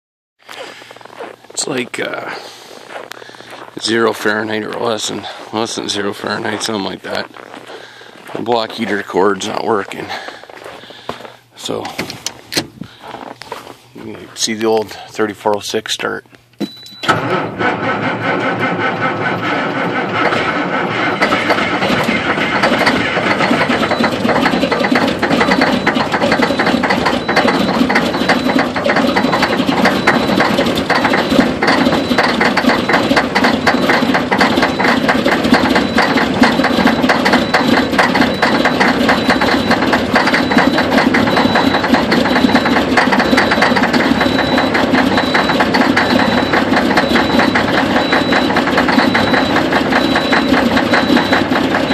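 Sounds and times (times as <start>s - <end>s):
diesel engine clattering: 0.5s - 15.8s, 16.6s - 51.9s.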